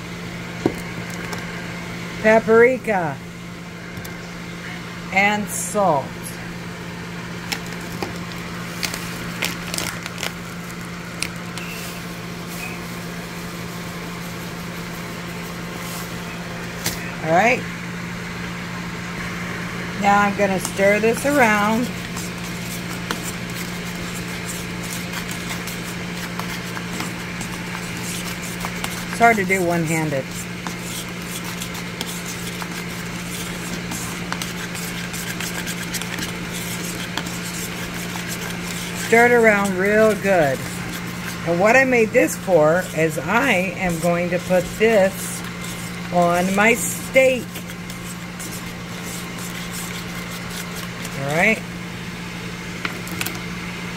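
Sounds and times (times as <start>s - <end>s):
kitchen appliance humming: 0.0s - 53.9s.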